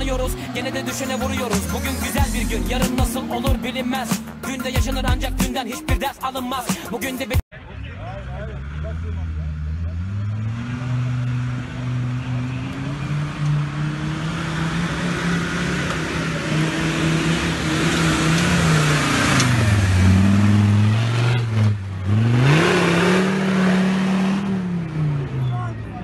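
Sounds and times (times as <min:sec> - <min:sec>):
vehicle engine revving under load: 0:00.0 - 0:05.4, 0:08.1 - 0:26.0.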